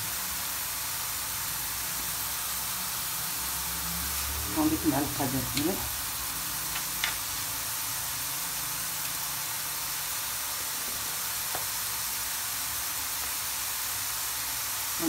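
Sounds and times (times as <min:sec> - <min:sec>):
onion sizzling in a frying pan: 0:00.0 - 0:15.0.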